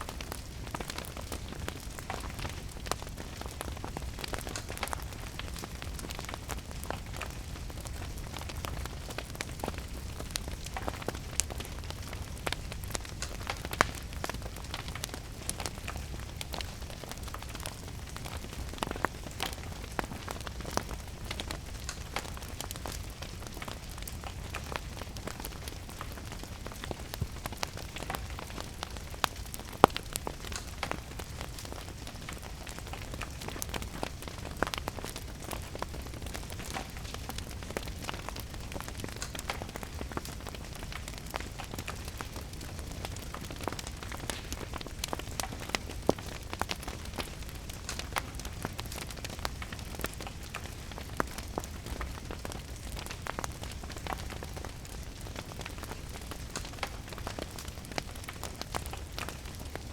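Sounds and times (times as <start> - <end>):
rain: 0.0 - 59.9
wood fire crackling and popping: 0.0 - 59.9.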